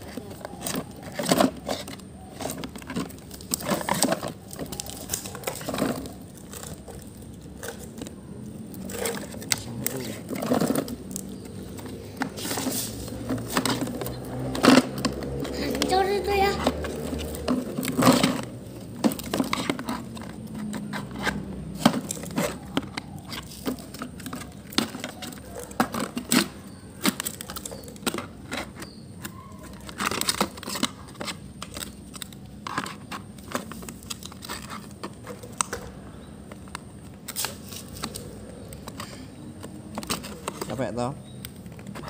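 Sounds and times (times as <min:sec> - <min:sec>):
plastic toys clicking and knocking: 0:00.0 - 0:42.0.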